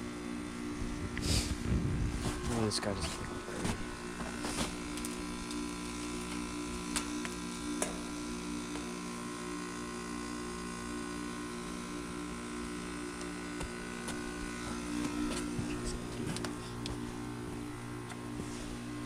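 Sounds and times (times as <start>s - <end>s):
heat pump compressor humming: 0.0s - 19.0s.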